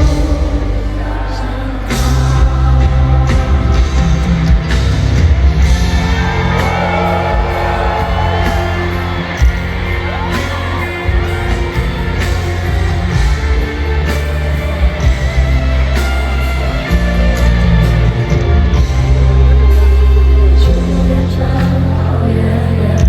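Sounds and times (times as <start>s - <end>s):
live pop music over sound system: 0.0s - 23.0s.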